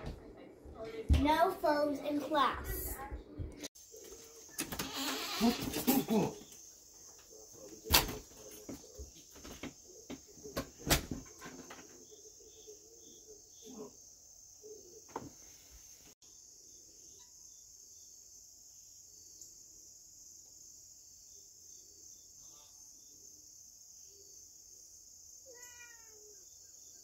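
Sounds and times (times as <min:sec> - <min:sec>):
crickets chirping: 0:03.8 - 0:27.0.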